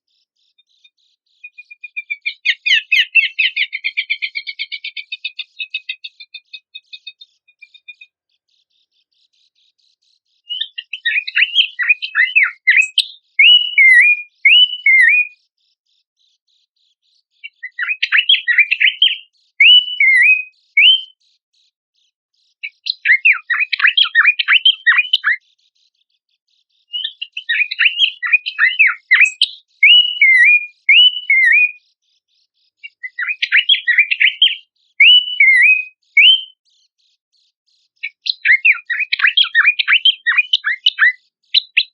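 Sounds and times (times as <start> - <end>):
bird song chattering and whistles: 0.0 - 21.4, 22.4 - 41.9.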